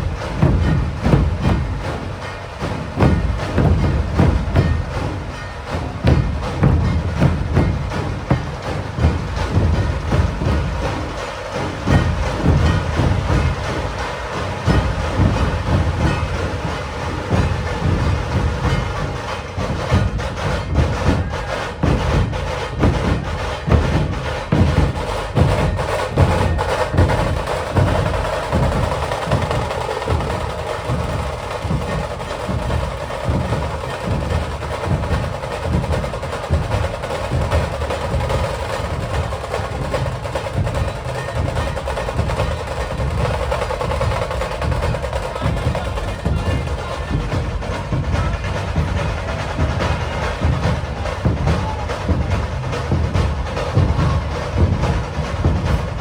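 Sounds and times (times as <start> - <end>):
deep barrel drums beating: 0.0 - 56.0.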